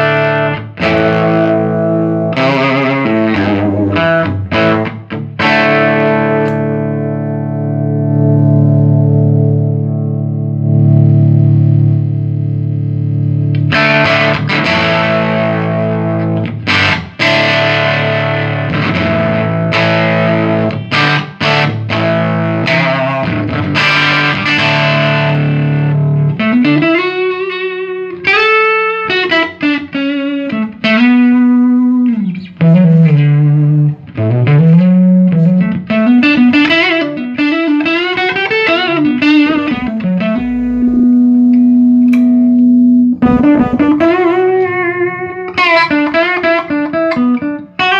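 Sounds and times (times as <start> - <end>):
electric guitar lead line: 0.0 - 47.9
electric guitar strummed chords: 0.0 - 47.9.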